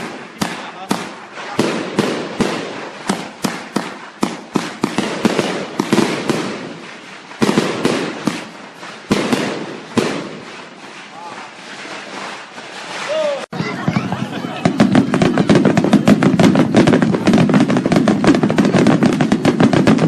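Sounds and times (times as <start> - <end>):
fireworks banging: 0.0 - 20.0
fireworks crackling: 0.0 - 20.0.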